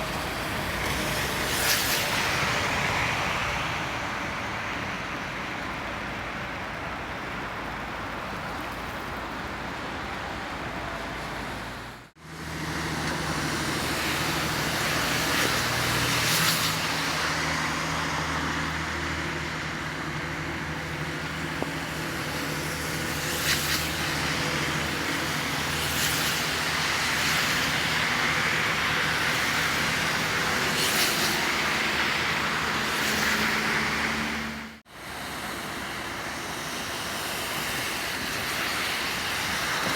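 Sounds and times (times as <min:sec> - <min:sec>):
city traffic engine hum: 0:00.0 - 0:39.9
vehicles swishing past: 0:00.0 - 0:39.9.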